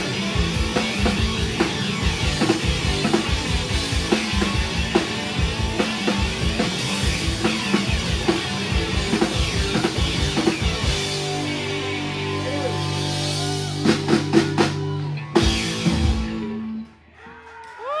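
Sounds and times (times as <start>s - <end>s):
live rock band playing: 0.0s - 16.9s.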